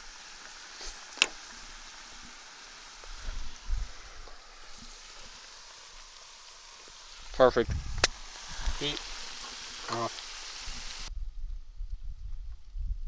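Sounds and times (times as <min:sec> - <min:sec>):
food sizzling in a pan: 0:00.0 - 0:11.1.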